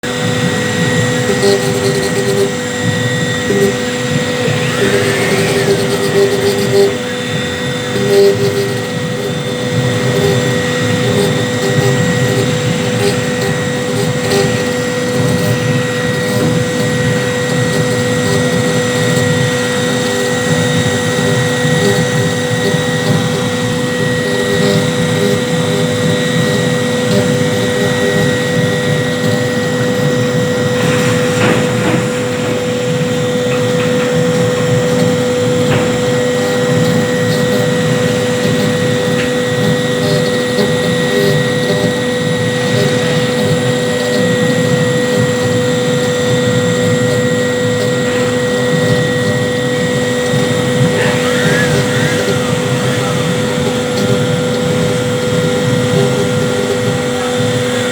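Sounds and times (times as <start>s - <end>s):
cnc router running: 0.0s - 57.9s.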